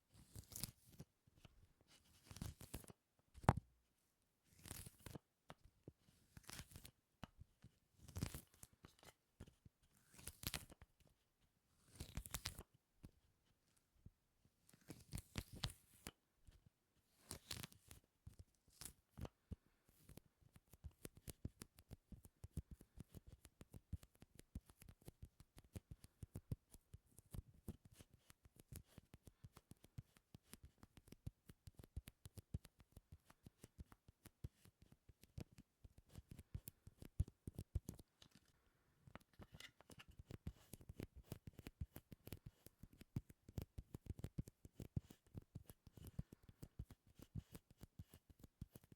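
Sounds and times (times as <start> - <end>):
soft sticky clicks and crackles: 0.2 - 3.6, 4.5 - 11.2, 11.9 - 14.1, 14.7 - 16.6, 17.2 - 48.9.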